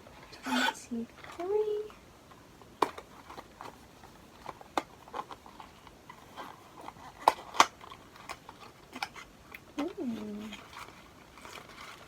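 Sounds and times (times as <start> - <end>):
light crinkling: 1.0 - 12.0.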